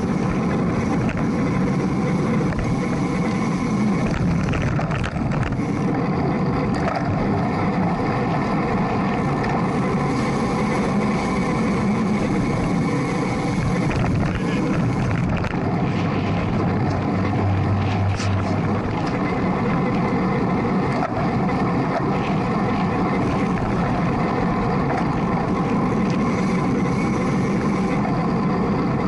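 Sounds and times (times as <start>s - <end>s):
road rumble: 0.0s - 29.0s
wind: 0.0s - 29.0s.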